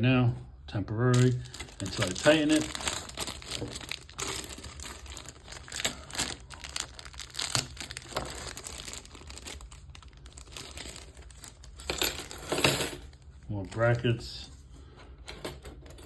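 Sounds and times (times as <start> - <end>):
plastic crinkling and rustling: 1.1 - 14.2.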